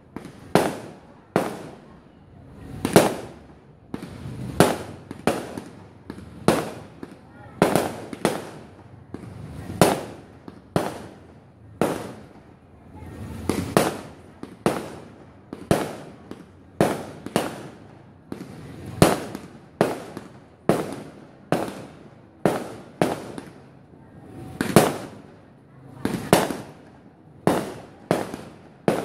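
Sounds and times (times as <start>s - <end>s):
fireworks bangs echoing: 0.0s - 2.0s, 2.6s - 29.0s.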